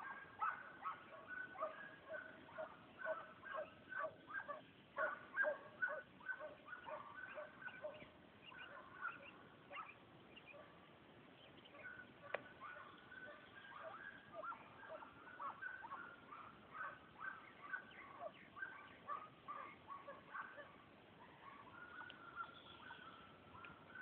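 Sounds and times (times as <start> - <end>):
hounds baying: 0.0 - 10.8, 11.6 - 24.0.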